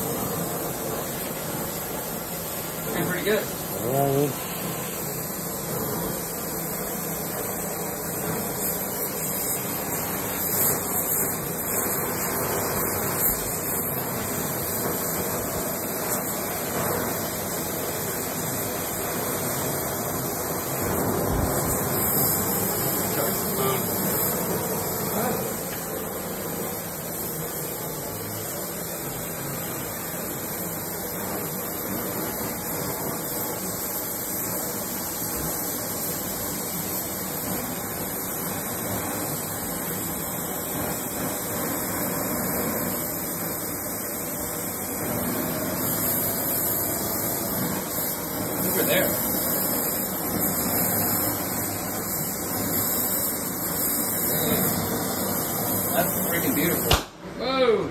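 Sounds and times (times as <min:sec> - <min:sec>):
torch flame hissing: 0:00.0 - 0:57.4.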